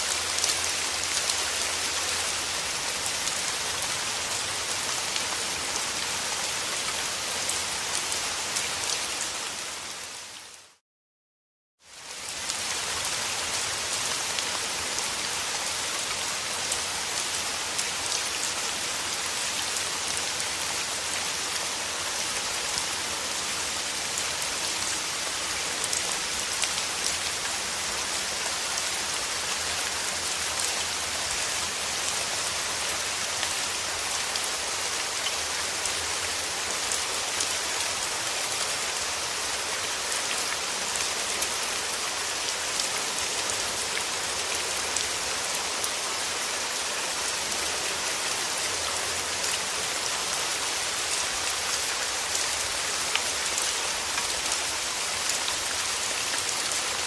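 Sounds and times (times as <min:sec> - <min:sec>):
rain falling on a surface: 0:00.0 - 0:10.8, 0:11.8 - 0:57.0.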